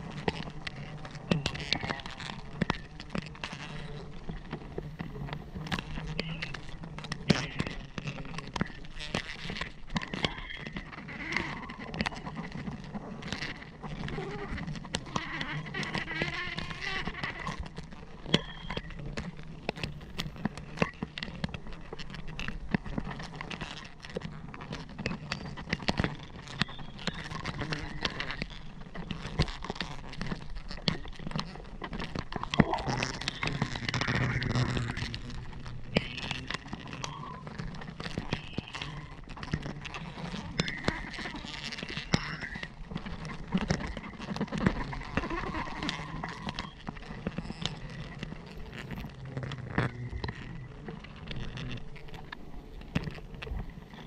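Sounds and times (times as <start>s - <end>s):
leaves and twigs rustling: 0.0s - 54.0s.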